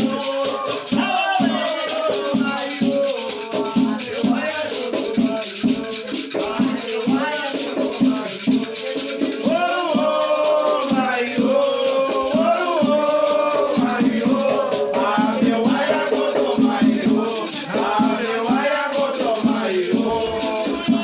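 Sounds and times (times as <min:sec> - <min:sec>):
group singing chants: 0:00.0 - 0:21.0
shakers rattling: 0:00.0 - 0:21.0.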